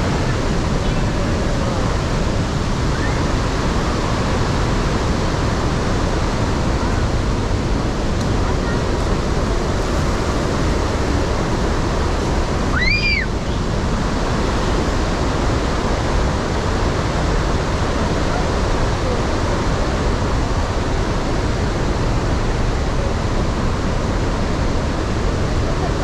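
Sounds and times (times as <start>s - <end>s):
rush of falling water: 0.0s - 26.0s.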